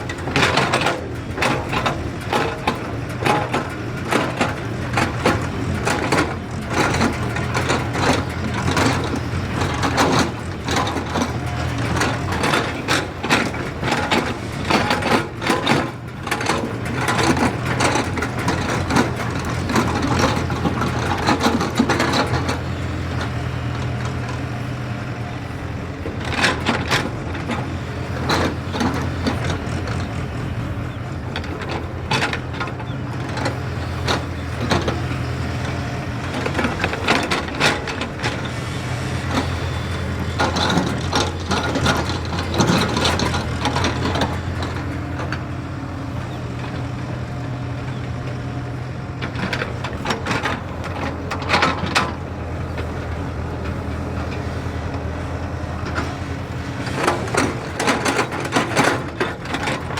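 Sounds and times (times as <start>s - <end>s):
diesel engine running: 0.0s - 59.9s
excavator clanks and crunching: 0.0s - 59.9s.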